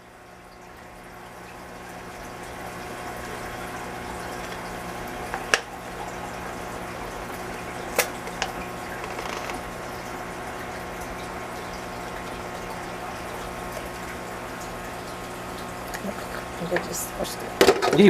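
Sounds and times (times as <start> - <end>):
aquarium water bubbling: 0.0 - 18.0.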